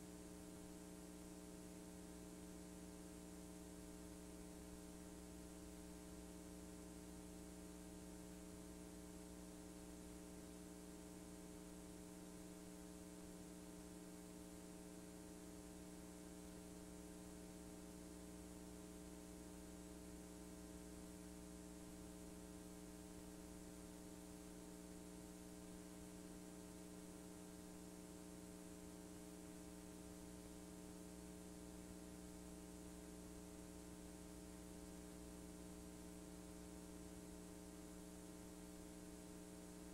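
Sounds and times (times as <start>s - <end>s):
faint mains hum: 0.0s - 39.9s.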